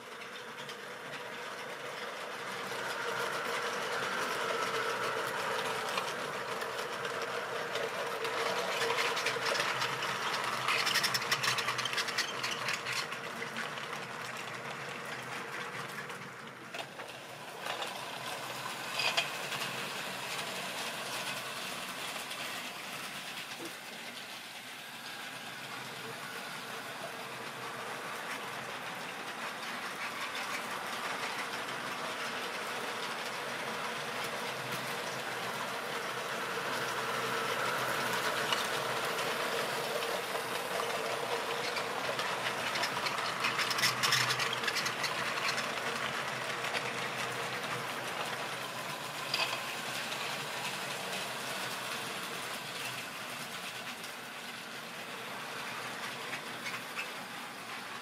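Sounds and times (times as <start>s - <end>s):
train wheels clicking over rails: 0.0s - 58.0s.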